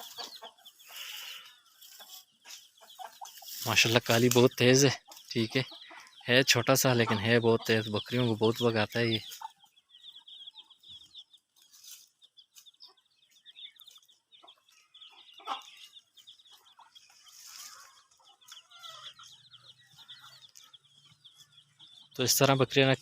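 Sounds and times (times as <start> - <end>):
chickens clucking: 0.0 - 23.0
chicks cheeping: 0.0 - 23.0.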